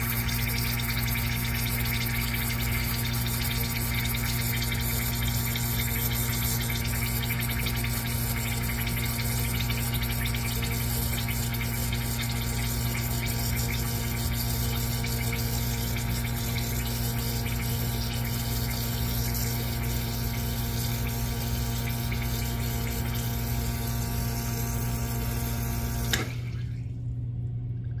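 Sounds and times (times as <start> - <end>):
water flowing: 0.0 - 26.9
espresso machine pump humming: 0.0 - 28.0.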